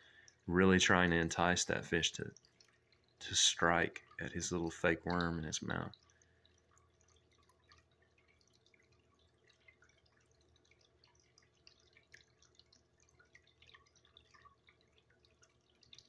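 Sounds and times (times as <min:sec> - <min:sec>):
irregular ticks and drips: 0:00.0 - 0:16.0.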